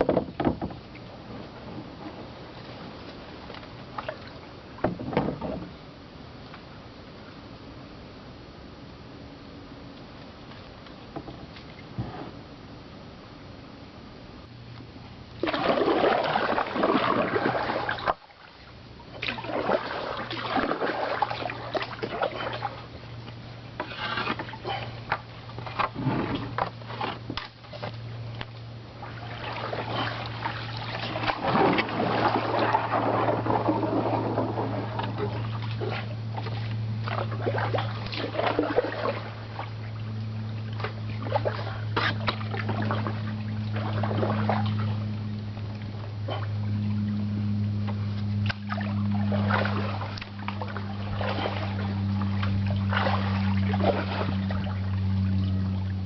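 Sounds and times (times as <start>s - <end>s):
paddle strokes splashing water: 0.0s - 5.6s, 15.4s - 56.0s
steady low hum: 0.0s - 56.0s.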